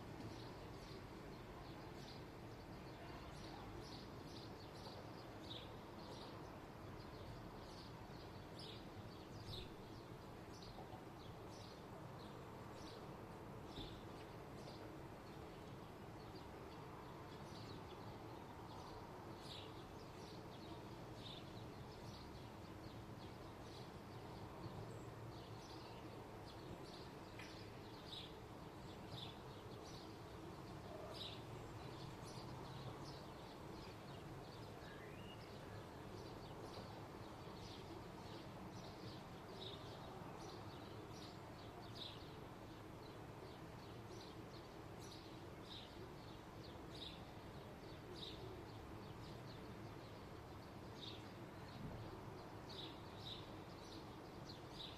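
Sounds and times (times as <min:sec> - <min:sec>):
faint birds chirping: 0:00.0 - 0:54.9.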